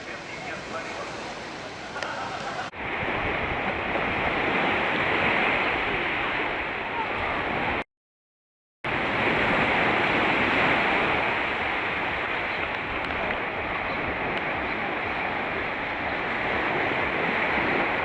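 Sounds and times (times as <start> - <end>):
surf rushing onto shore: 0.0 - 7.8, 8.9 - 18.0.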